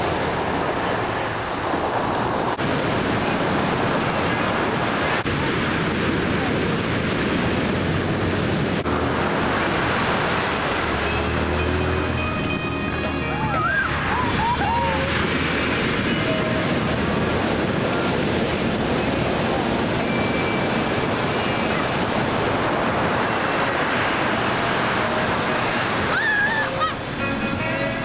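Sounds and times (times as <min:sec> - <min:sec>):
waves breaking on shore: 0:00.0 - 0:28.0.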